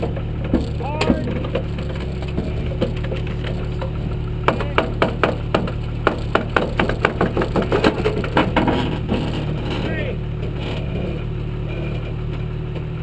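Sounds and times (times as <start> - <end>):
sharp clicks and knocks: 0.0 - 11.2
off-road vehicle engine running: 0.0 - 13.0.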